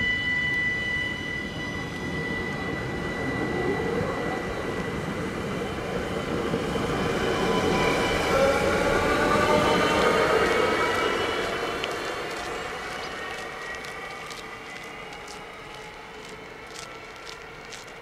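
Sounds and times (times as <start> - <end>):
high electric whine: 0.0 - 17.9
electric train running past: 0.0 - 18.0.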